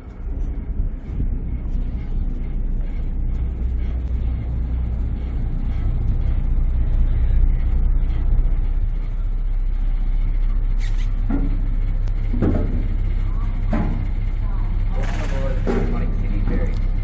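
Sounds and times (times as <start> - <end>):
ferry engines rumbling: 0.0 - 17.0.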